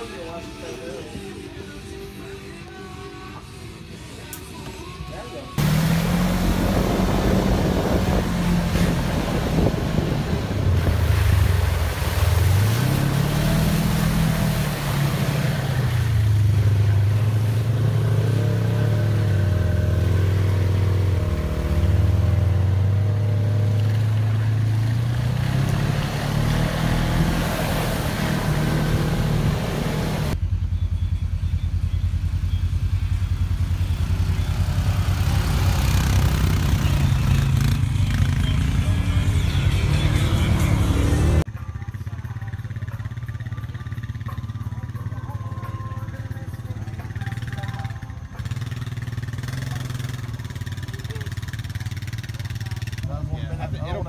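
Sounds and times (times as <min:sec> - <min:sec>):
atv engine revving: 0:05.6 - 0:41.5, 0:46.1 - 0:54.0.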